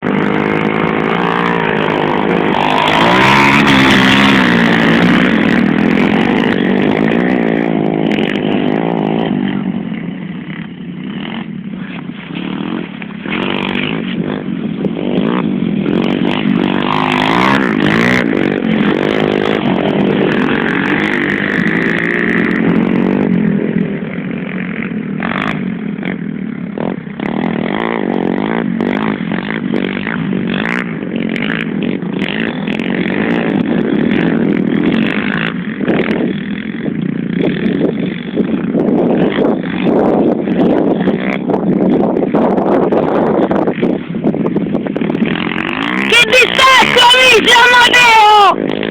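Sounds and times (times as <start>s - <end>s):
pit bike engines revving: 0.0s - 48.9s.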